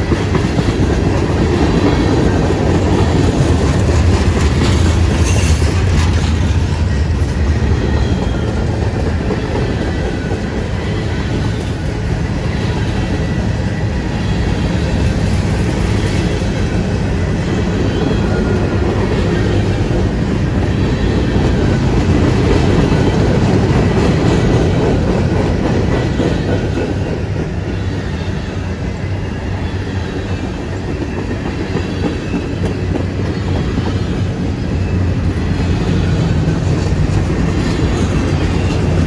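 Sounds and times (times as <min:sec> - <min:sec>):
freight train rumbling past: 0:00.0 - 0:39.0.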